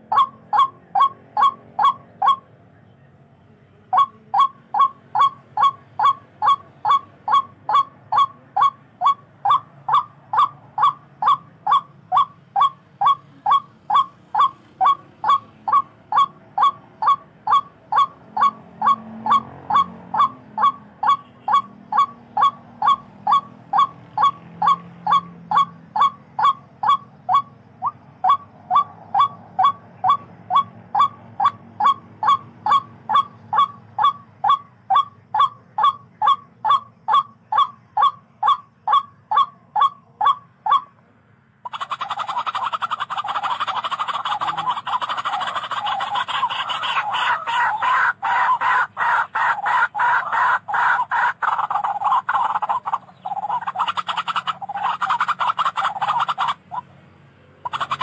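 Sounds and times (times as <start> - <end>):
rail bird honking calls: 0.0 - 2.5, 3.8 - 40.9, 41.6 - 56.9, 57.6 - 58.0.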